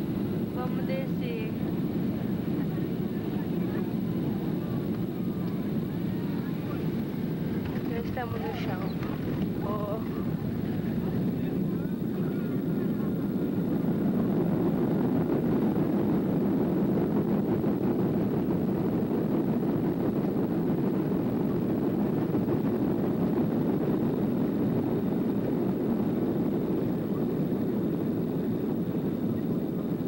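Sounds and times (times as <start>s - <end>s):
jet engine rumble in cabin: 0.0s - 30.0s.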